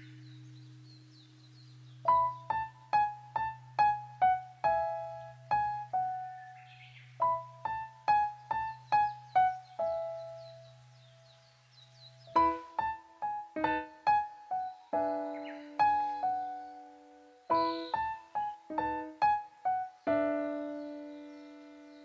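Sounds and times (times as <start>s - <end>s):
slow keyboard notes: 0.0s - 22.0s.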